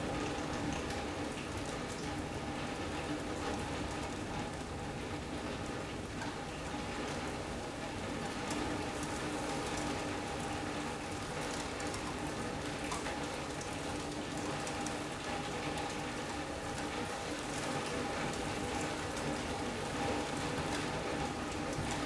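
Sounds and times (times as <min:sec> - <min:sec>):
rain on a roof: 0:00.0 - 0:22.0.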